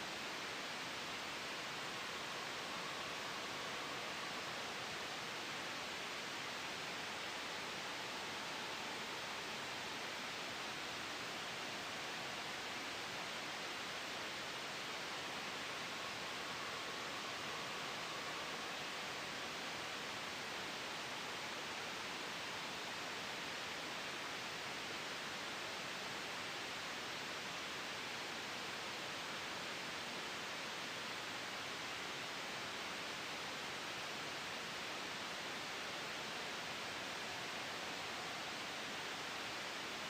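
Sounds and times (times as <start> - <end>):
white noise hiss: 0.0 - 40.0.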